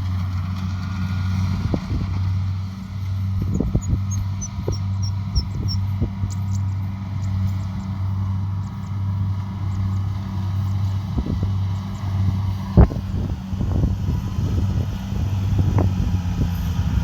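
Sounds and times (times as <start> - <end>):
combine harvester engine humming: 0.0 - 17.0.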